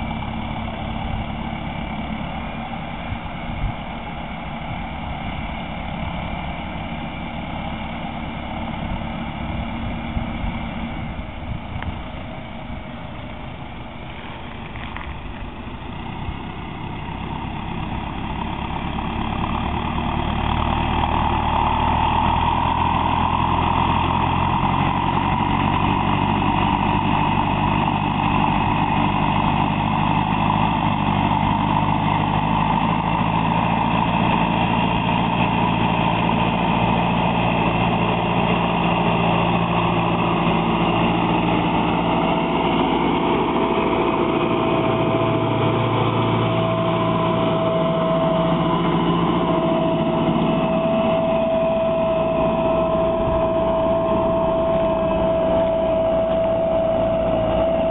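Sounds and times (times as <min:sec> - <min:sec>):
steady whine: 0:00.0 - 0:57.9
tractor diesel engine under load: 0:00.0 - 0:57.9.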